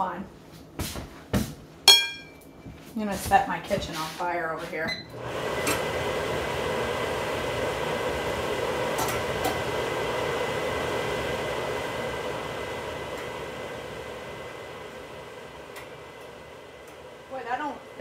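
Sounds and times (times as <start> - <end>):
gas burner flame hissing: 3.2 - 18.0.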